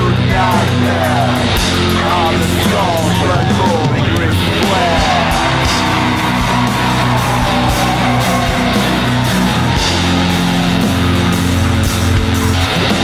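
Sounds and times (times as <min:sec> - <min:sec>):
instrumental heavy metal music: 0:00.0 - 0:13.0.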